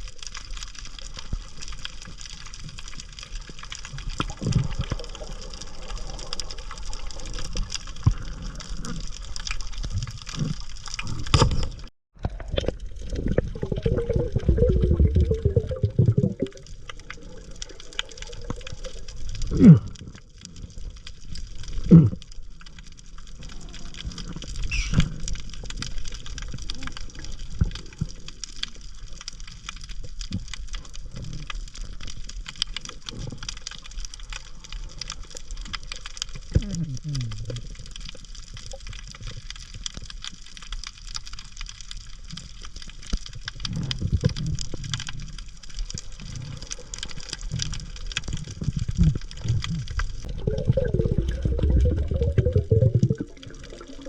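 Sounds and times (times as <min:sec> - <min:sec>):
underwater water noise: 0:00.0 - 0:54.0.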